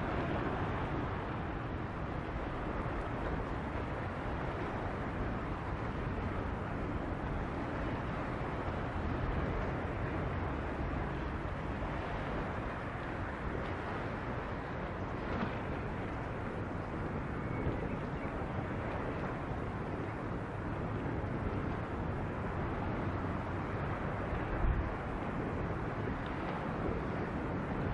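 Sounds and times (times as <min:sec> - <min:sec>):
strong wind on microphone: 0:00.0 - 0:27.9.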